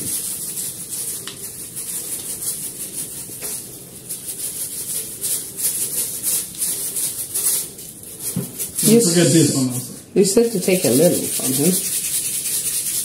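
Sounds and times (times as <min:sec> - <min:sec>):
sprinkles rattling in shaker jar: 0:00.0 - 0:09.2, 0:10.8 - 0:13.0.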